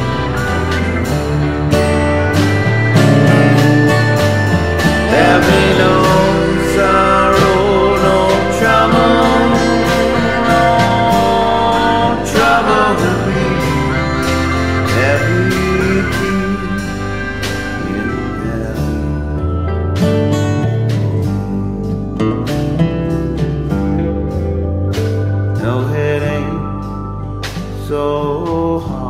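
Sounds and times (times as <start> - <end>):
country gospel music with guitar: 0.0 - 29.0.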